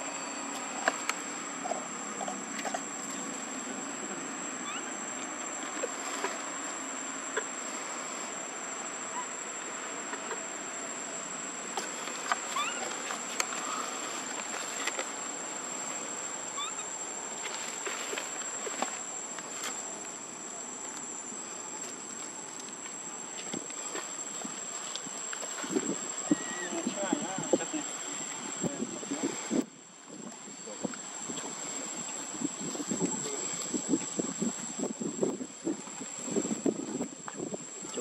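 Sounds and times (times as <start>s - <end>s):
faint outdoor hiss: 0.0s - 38.0s
insects droning: 0.0s - 38.0s.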